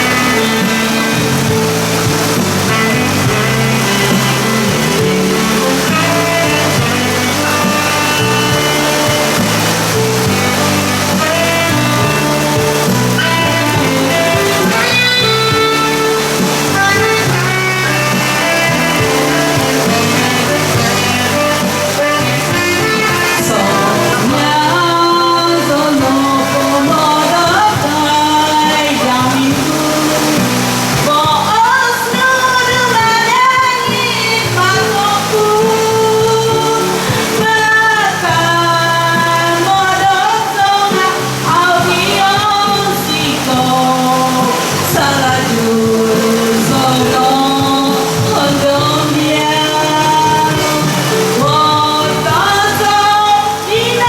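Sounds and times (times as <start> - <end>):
backing music: 0.0 - 54.0
heavy rain hissing: 0.0 - 54.0
live band with guitar lead: 0.0 - 54.0
woman singing long notes: 0.0 - 54.0.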